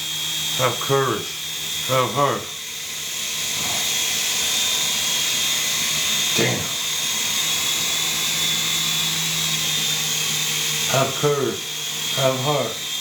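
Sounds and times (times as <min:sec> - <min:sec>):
rc helicopter rotor whine: 0:00.0 - 0:13.0.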